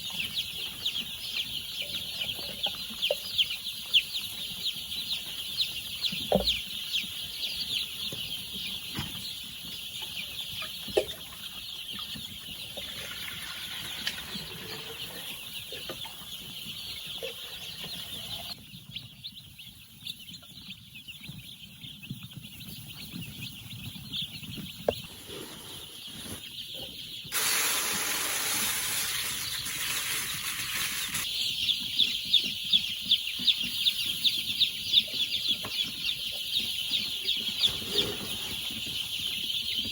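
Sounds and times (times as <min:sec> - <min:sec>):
chickens peeping and clucking: 0:00.0 - 0:39.9.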